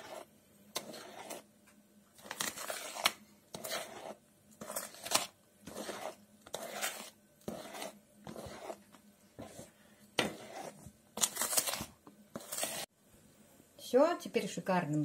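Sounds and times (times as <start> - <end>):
spoon scraping batter in bowl: 0.0 - 1.5, 2.2 - 12.9.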